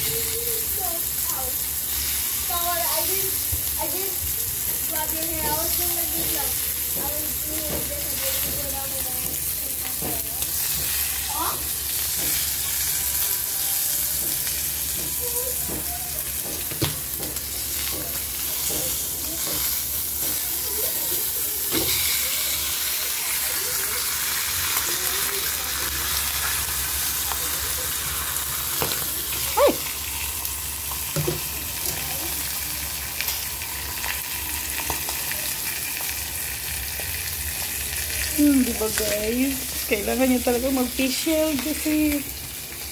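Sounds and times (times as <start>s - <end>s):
pork sizzling in a pan: 0.0s - 42.9s.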